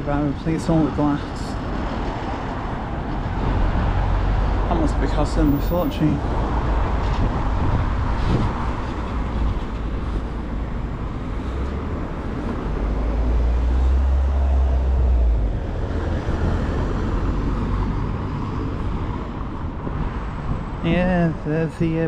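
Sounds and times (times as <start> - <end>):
passing road traffic: 0.0 - 22.0.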